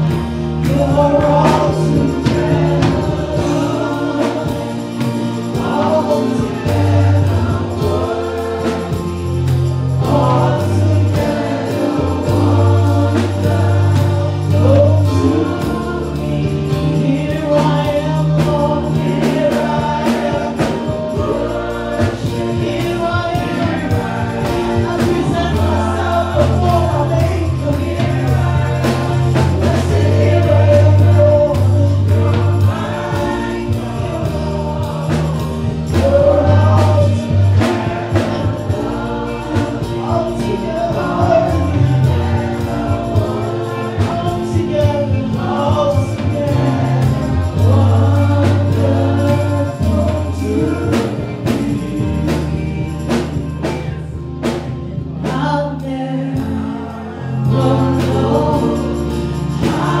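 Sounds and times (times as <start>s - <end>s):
bass and percussion backing: 0.0s - 60.0s
choir singing: 0.0s - 60.0s.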